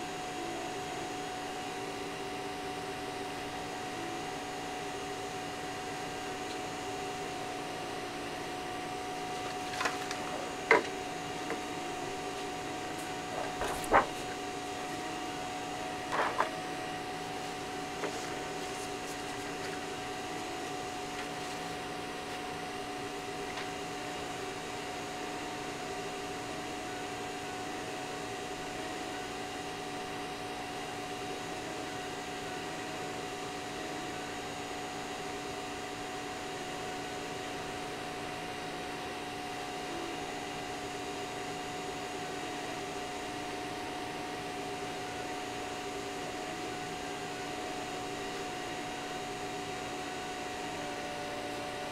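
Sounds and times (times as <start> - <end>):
cooling fan hum: 0.0 - 51.9.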